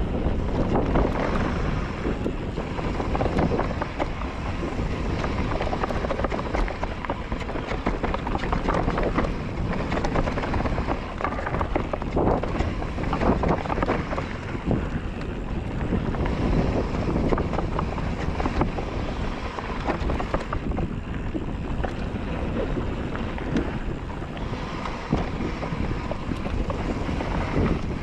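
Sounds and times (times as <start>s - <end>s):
bike rattling and knocking: 0.0s - 28.0s
tyre rumble: 0.0s - 28.0s
wind on microphone: 0.0s - 28.0s.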